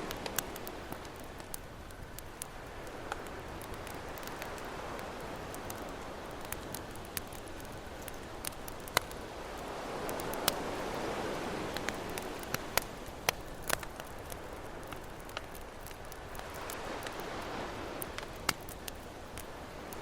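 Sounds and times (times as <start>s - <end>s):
campfire crackling and popping: 0.0s - 20.0s
ocean surf: 2.4s - 20.0s.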